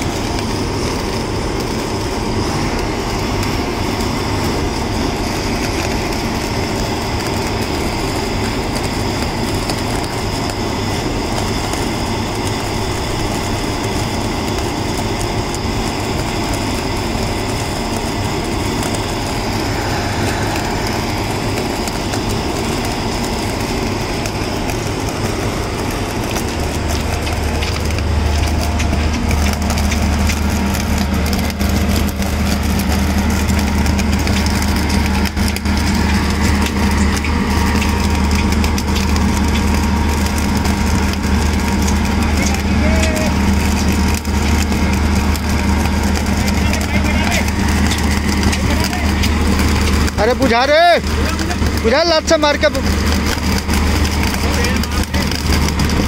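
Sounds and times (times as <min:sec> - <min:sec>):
deep hum: 0:00.0 - 0:56.0
dense crackling of arcing: 0:00.0 - 0:56.0
machine running steadily: 0:00.0 - 0:56.0.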